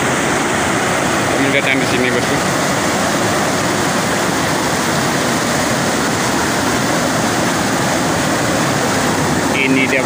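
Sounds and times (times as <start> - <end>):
river rushing over rocks: 0.0 - 10.0.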